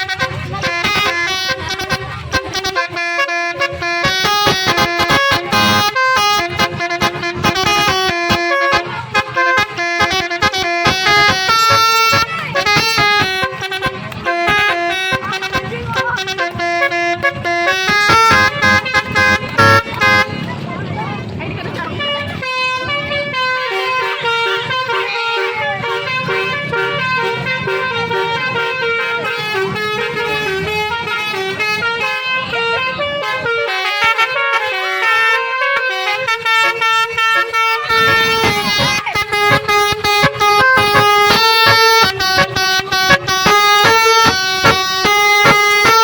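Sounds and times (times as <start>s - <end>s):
musical air horn playing a tune: 0.0s - 20.6s, 21.9s - 46.0s.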